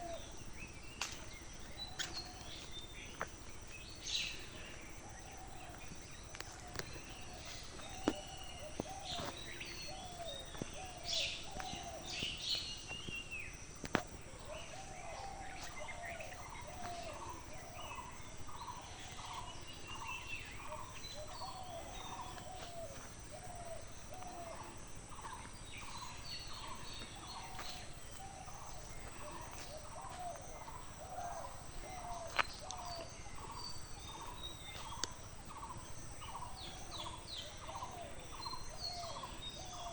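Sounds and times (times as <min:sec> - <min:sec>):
birds calling: 0:00.0 - 0:39.9
steady background hiss: 0:00.0 - 0:39.9.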